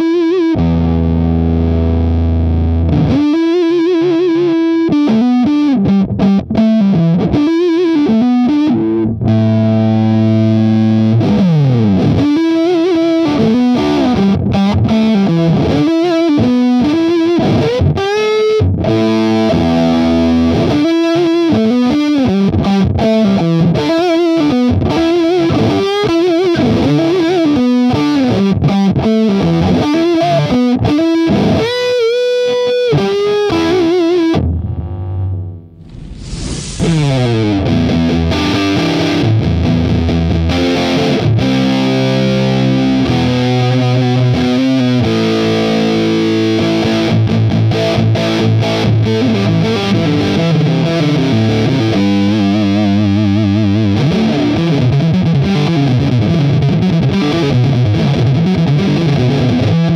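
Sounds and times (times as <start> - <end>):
fuzz electric guitar: 0.0 - 59.9.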